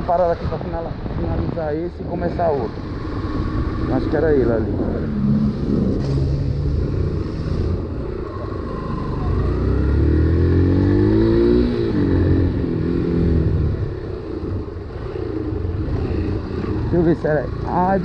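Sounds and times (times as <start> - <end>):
motorcycle engine accelerating: 2.4 - 18.0.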